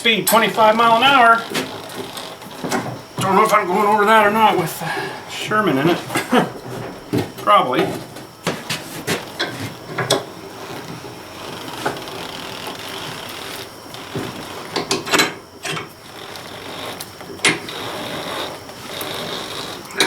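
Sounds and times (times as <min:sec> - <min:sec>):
tire irons knocking and scraping: 0:00.0 - 0:20.0.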